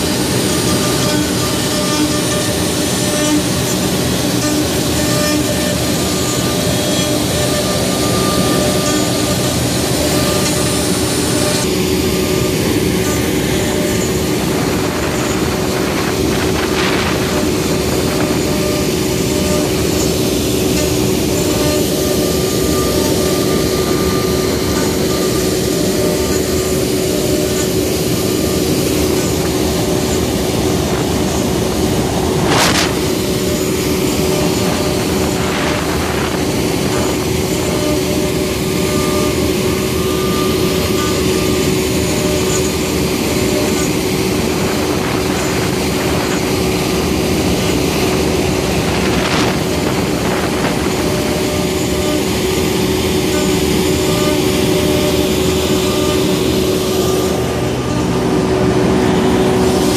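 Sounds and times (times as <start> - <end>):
end mill rasping into wood: 0.0 - 59.9
router spindle whine: 0.0 - 59.9.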